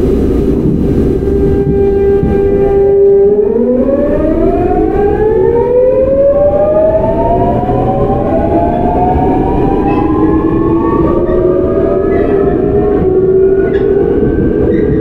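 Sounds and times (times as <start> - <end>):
rumbling rail noise: 0.0 - 15.0
train inverter whining: 0.0 - 15.0.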